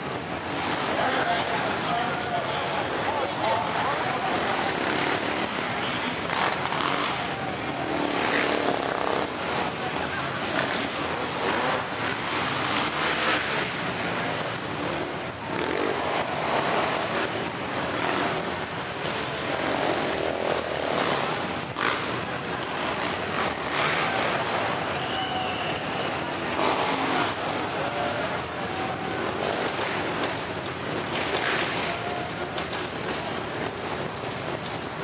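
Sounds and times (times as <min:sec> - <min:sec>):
three-wheeler engines revving: 0:00.0 - 0:35.0.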